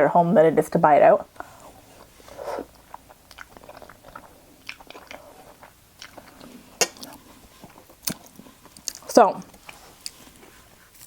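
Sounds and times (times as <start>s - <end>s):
wet chewing: 1.4s - 11.0s.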